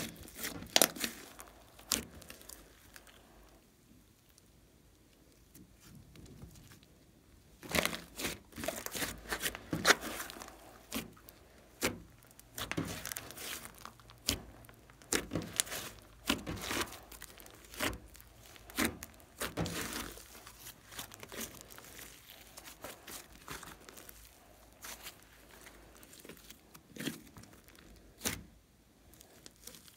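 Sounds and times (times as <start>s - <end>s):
slime crackling and popping: 0.0s - 29.9s.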